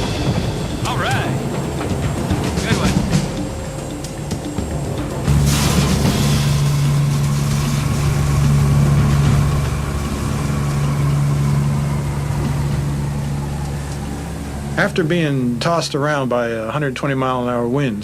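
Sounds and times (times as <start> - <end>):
turboprop cabin drone: 0.0 - 16.9
high engine whine: 0.0 - 17.8.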